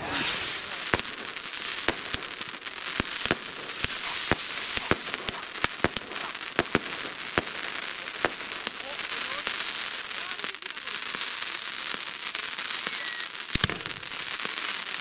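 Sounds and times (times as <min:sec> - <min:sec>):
crackling hiss of fireworks: 0:00.0 - 0:15.0.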